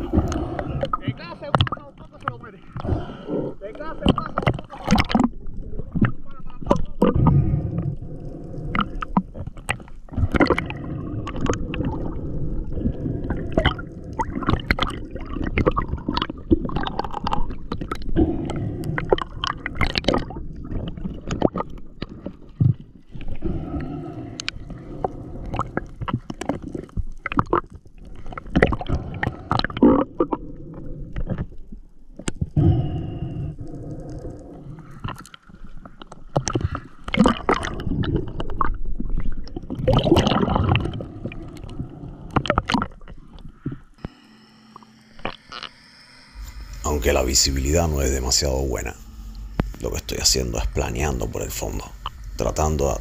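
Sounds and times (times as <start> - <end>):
water gurgling and bubbling underwater: 0.0 - 53.0.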